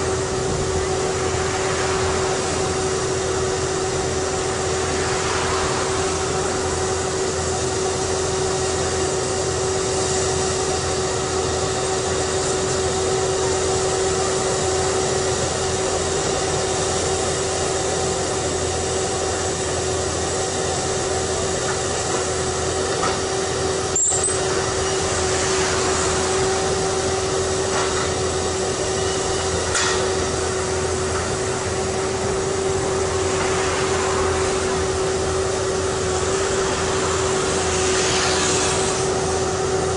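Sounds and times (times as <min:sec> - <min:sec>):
drilling rig machine drone: 0:00.0 - 0:39.9.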